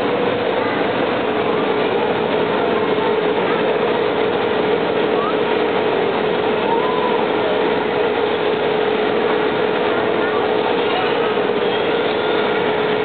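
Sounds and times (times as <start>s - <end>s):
overhead crane machine hum: 0.0s - 13.0s.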